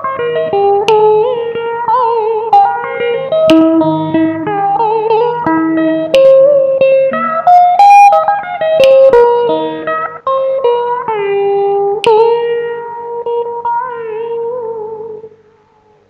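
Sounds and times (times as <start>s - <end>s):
electric guitar lead line: 0.0s - 16.0s.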